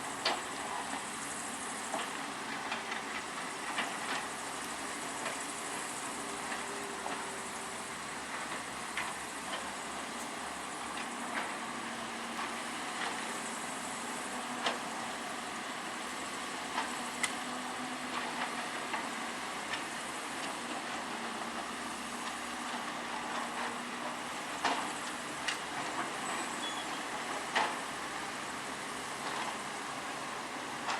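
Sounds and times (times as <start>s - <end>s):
heavy machine engine running: 0.0s - 30.9s.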